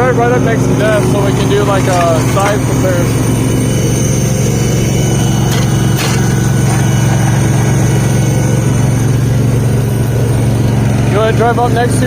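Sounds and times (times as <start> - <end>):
garden tractor engine running: 0.0 - 12.0.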